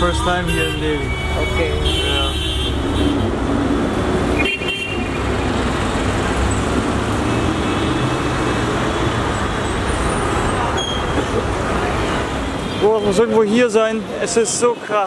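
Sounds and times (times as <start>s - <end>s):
heavy street traffic: 0.0s - 15.0s.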